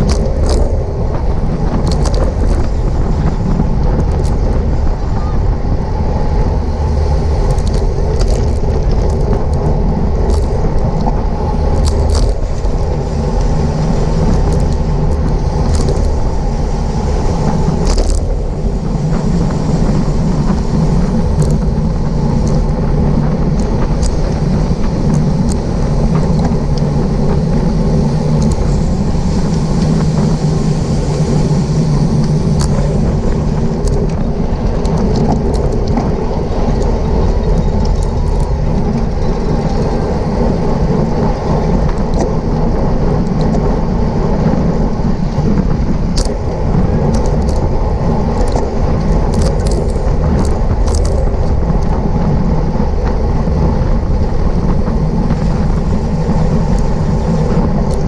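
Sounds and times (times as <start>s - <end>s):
low rumble on microphone: 0.0s - 58.0s
wind rush and road noise: 0.0s - 58.0s.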